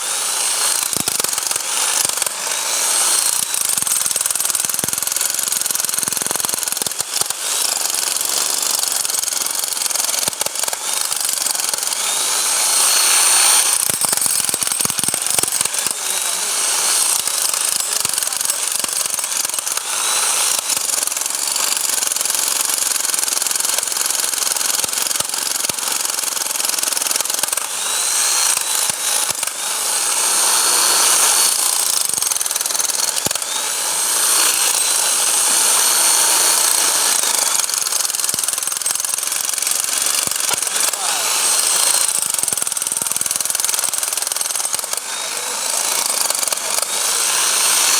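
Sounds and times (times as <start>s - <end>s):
hammer drill rattling whine: 0.0s - 47.9s.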